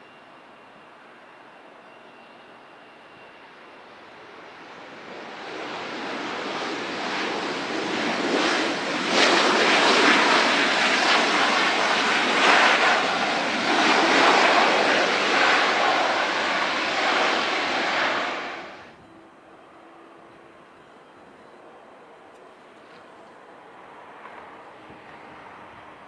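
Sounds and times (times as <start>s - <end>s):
aircraft engine rush: 2.1s - 26.0s.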